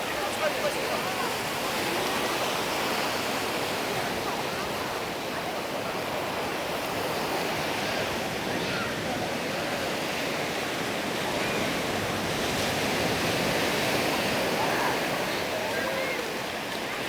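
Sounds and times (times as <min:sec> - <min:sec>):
faint voices: 0:00.0 - 0:17.0.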